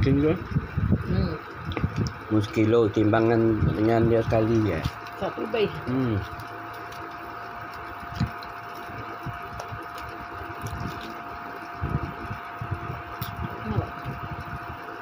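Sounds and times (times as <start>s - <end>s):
constant tone: 0.0s - 15.0s
indoor background hum: 0.0s - 15.0s.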